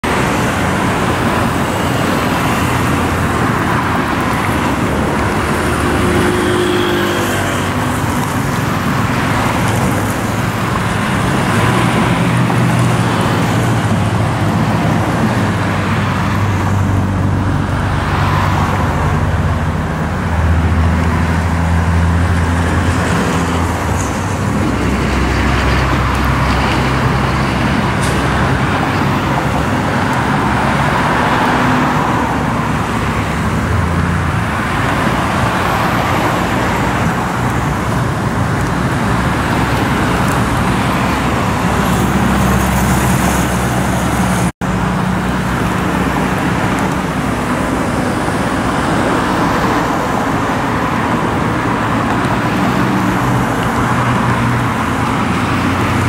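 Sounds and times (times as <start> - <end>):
heavy vehicle engine drone: 0.0 - 56.0
road traffic passing: 0.0 - 56.0.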